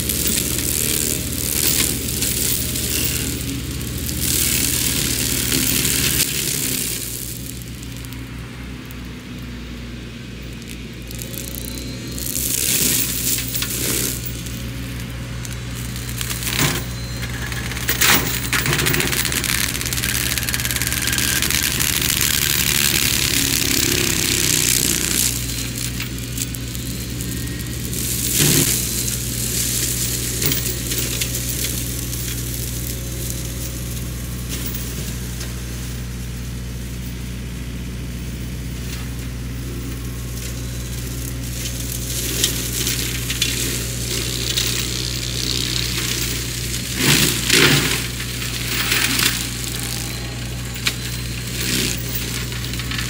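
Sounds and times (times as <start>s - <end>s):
flail mulcher chewing brush: 0.0s - 9.0s, 10.5s - 35.6s, 39.0s - 53.0s
diesel engine running: 0.0s - 53.0s.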